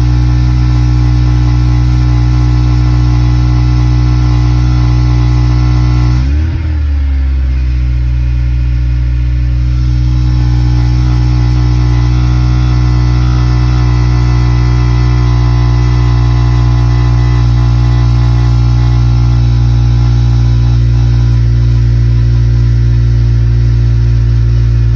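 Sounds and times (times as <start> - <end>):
car engine droning: 0.0 - 24.9.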